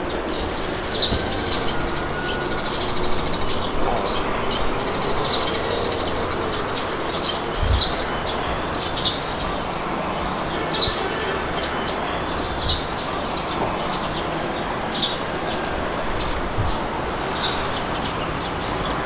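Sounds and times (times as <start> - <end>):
birds chirping: 0.0 - 19.0
wind blowing: 0.0 - 19.0.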